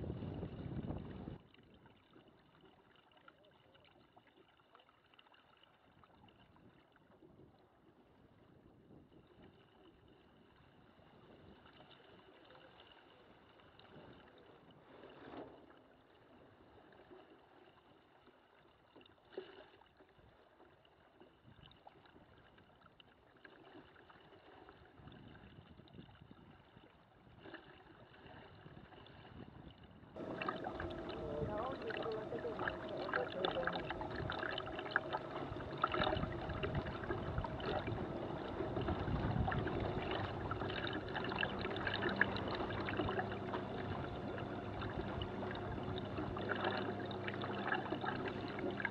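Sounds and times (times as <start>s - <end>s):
water splashing against hull: 0.0s - 48.9s.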